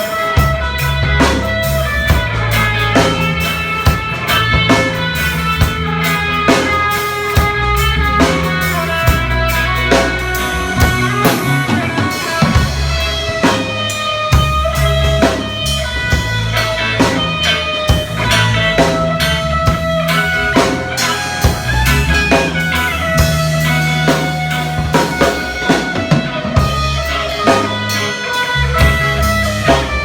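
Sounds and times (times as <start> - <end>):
bass guitar lines: 0.0 - 30.0
drum kit beat: 0.0 - 30.0
guitar: 0.0 - 30.0.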